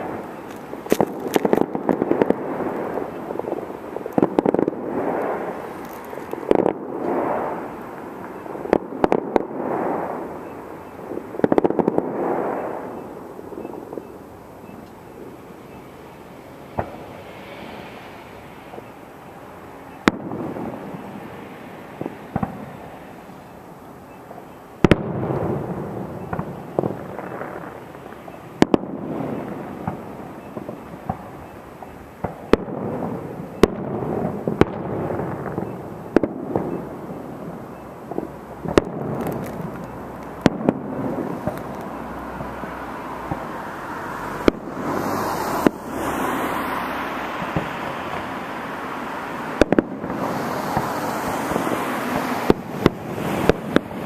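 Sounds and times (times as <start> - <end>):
distant fireworks bangs: 0.0 - 54.0.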